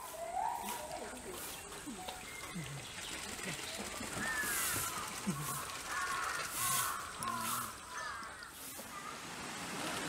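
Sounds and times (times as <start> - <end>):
bird calling: 0.0 - 9.3
outdoor background noise: 0.0 - 10.0.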